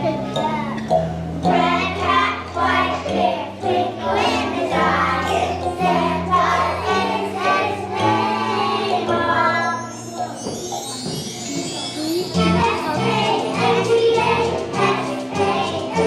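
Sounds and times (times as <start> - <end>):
instrumental accompaniment: 0.0 - 16.0
children's choir singing: 1.4 - 16.0.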